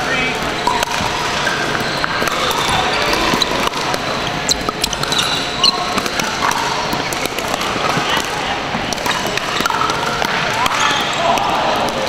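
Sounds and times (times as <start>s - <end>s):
din of busy sports hall: 0.0s - 12.0s
ball bounces: 0.4s - 12.0s.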